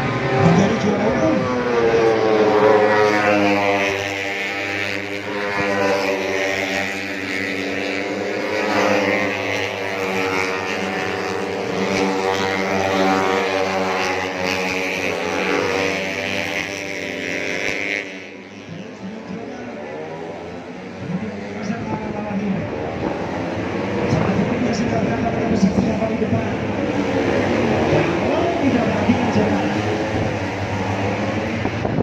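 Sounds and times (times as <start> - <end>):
race motorcycles at high revs: 0.0 - 32.0.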